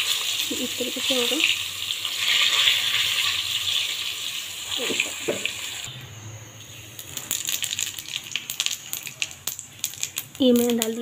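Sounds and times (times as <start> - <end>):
cumin seeds crackling in oil: 0.0 - 5.9, 6.8 - 11.0
hot oil sizzling in a pan: 0.0 - 5.9, 6.8 - 11.0.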